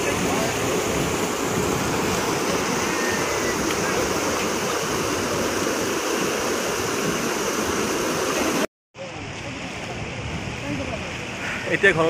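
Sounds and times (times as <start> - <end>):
floodwater cascading down bank: 0.0 - 12.0.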